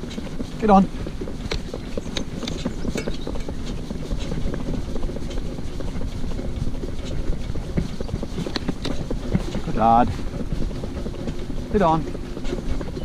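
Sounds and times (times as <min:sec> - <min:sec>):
cart wheels rumbling on road: 0:00.0 - 0:13.0
hooves and harness clicking: 0:00.0 - 0:13.0.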